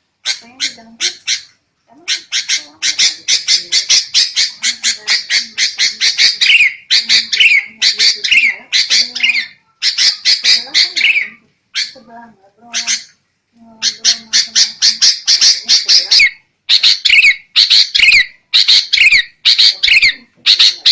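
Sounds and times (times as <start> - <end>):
bulbuls harsh chattering calls: 0.2 - 13.2, 13.8 - 20.9.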